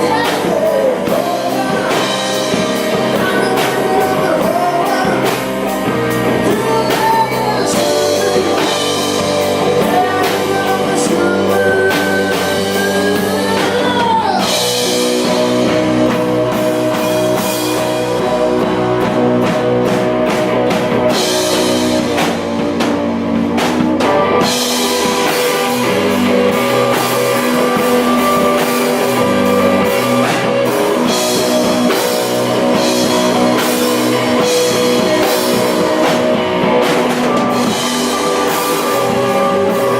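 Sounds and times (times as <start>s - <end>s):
electric guitar lead line bending: 0.0s - 39.9s
rock band playing live: 0.0s - 39.9s.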